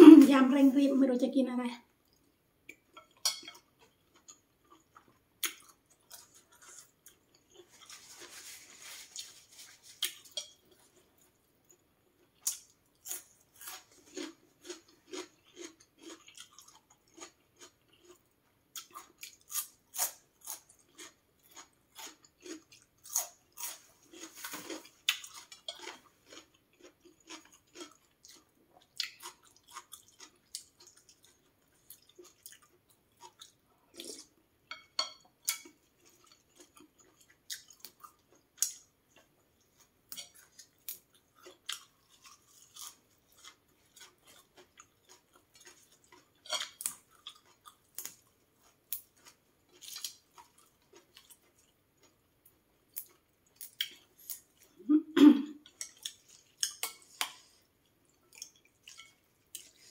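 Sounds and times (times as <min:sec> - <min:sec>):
chewing raw vegetables: 0:02.1 - 0:34.4, 0:35.1 - 0:54.9, 0:55.6 - 0:59.9.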